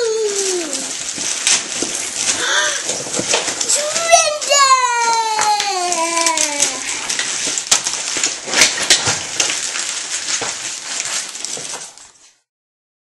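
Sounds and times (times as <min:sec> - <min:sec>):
handling noise rustling: 0:00.0 - 0:12.5.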